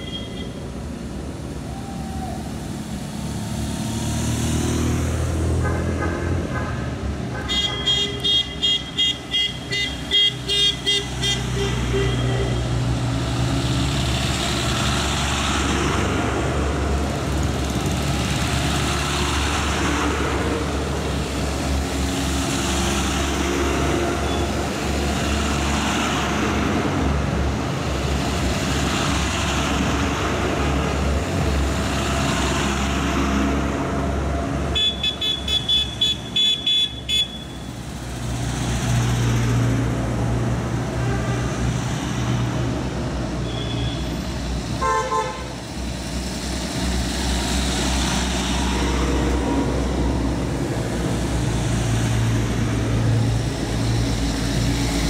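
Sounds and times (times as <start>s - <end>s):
trucks driving past: 0.0s - 55.0s.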